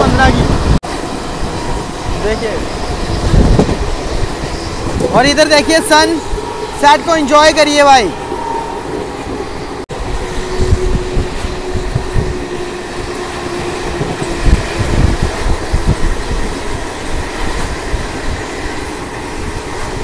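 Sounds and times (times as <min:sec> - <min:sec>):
train wheels rumbling on rail: 0:00.0 - 0:20.0
wind gusts on microphone: 0:00.0 - 0:20.0.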